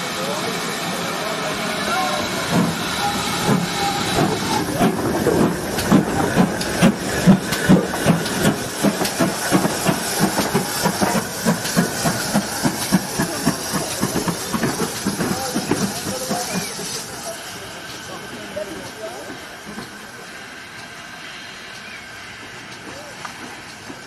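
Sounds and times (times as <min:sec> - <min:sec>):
steam engine exhaust beats: 0:00.0 - 0:24.0
steam hissing: 0:00.0 - 0:24.0.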